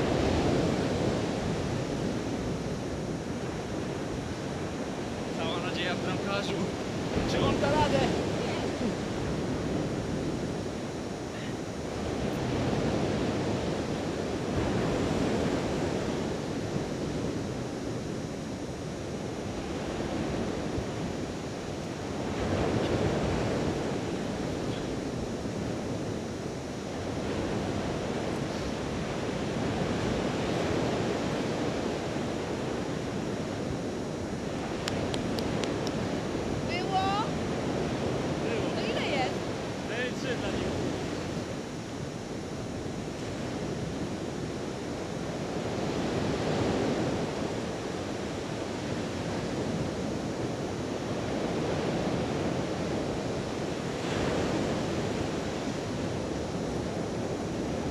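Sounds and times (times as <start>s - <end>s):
surf breaking on sandy beach: 0.0s - 57.9s.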